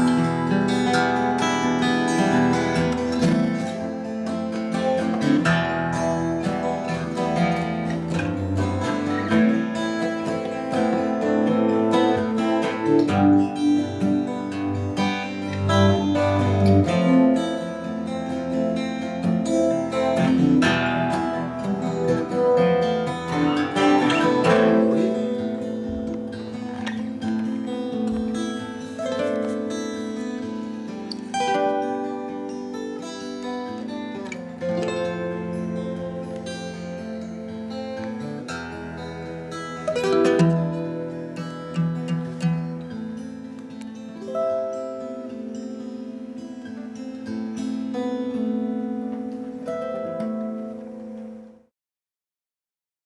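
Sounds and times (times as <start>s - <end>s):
plucked string music: 0.0s - 51.7s.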